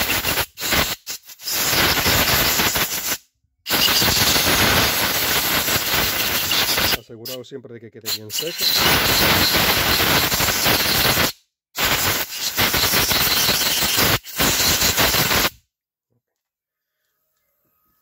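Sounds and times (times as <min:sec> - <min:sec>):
compressed air blow gun hissing: 0:00.0 - 0:07.0, 0:08.1 - 0:15.5.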